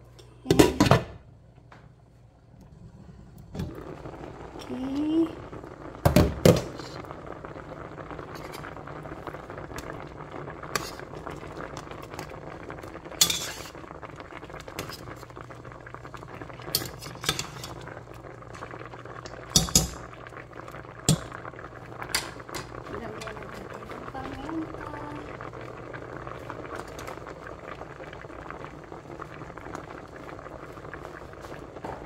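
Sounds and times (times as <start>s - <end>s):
coconut milk bubbling in pot: 2.5s - 32.0s.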